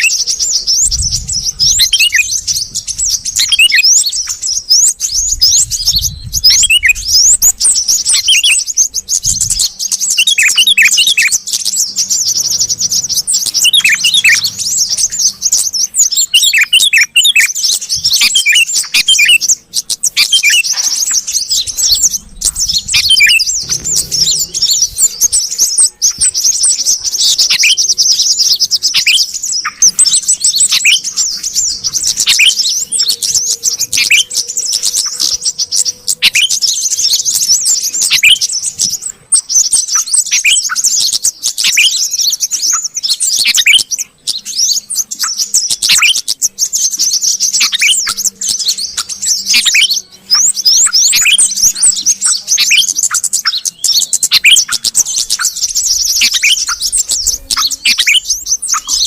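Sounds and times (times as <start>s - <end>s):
bulbuls chattering: 0.0s - 59.0s.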